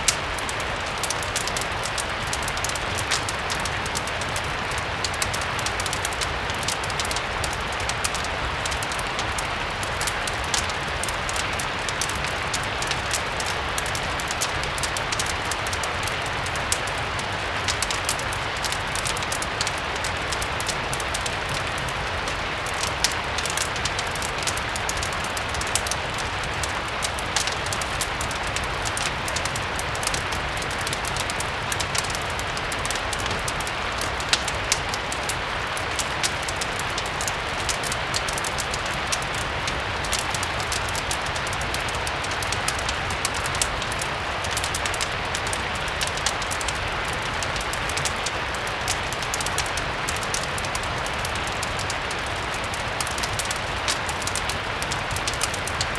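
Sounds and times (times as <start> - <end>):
fireplace crackling: 0.0 - 55.9
steady rain: 0.0 - 55.9.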